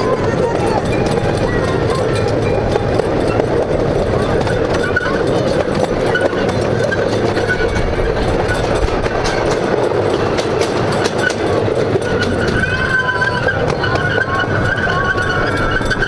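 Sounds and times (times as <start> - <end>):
ride-on train running on track: 0.0 - 16.0
wheels clicking on rails: 0.0 - 16.0.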